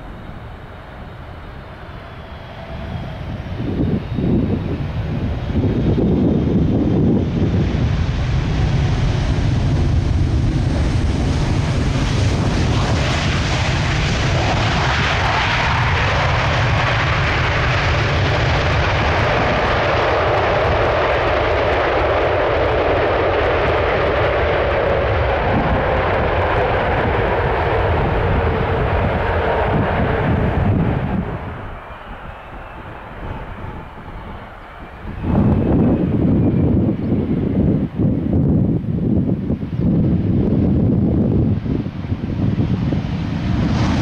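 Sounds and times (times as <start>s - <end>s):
jet engine whine: 0.0s - 44.0s
jet engines rumbling: 0.0s - 44.0s.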